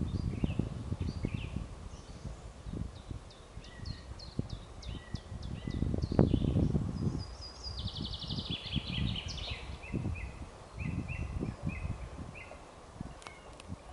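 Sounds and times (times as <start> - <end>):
songbird singing: 0.0 - 13.9.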